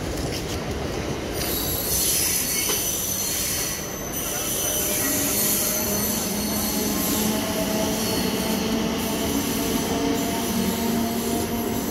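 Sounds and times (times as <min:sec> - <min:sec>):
train coaches rail noise: 0:00.0 - 0:11.9.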